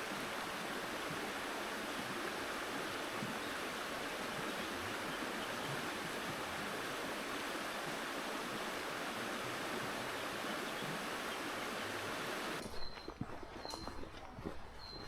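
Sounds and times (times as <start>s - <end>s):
flowing water rushing: 0.0s - 12.6s.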